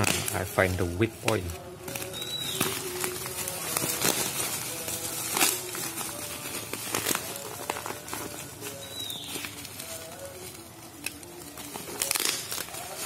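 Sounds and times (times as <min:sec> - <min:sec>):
bubble wrap and tape crinkling: 0:00.0 - 0:13.0
utility knife cutting parcel: 0:00.0 - 0:13.0.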